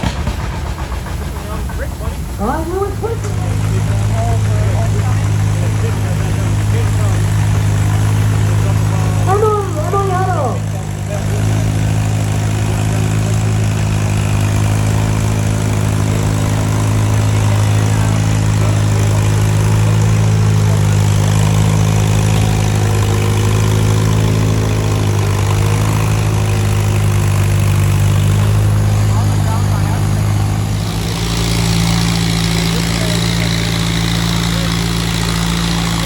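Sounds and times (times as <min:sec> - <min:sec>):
tractor engine droning: 0:00.0 - 0:36.0.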